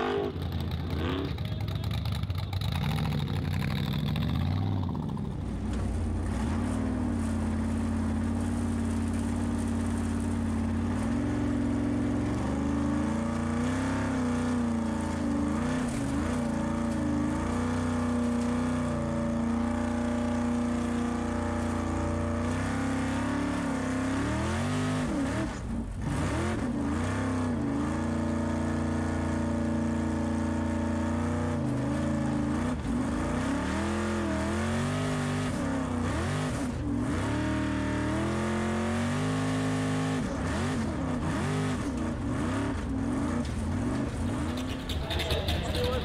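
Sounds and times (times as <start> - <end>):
racing car engine revving: 0.0 - 46.0.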